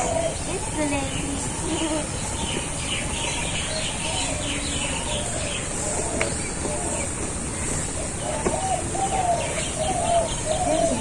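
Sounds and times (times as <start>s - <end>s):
small birds chirping: 0.0s - 11.0s
steady background hiss: 0.0s - 11.0s.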